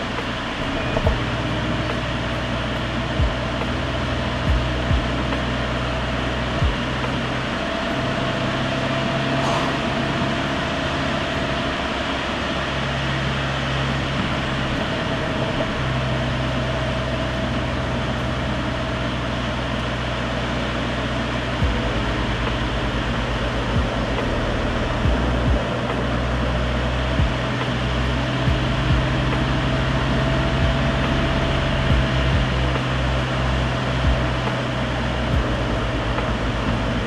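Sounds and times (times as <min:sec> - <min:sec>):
car engine cruising: 0:00.0 - 0:37.0.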